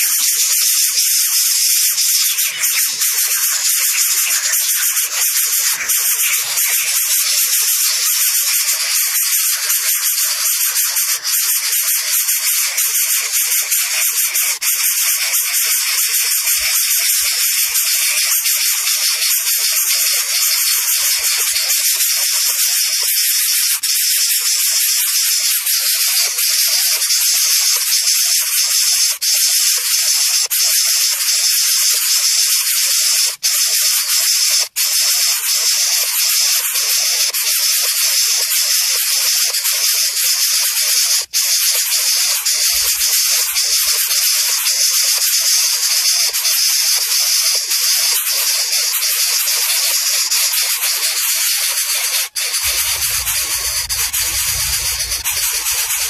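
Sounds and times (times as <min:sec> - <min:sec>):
chicks hissing: 0:00.0 - 0:56.0.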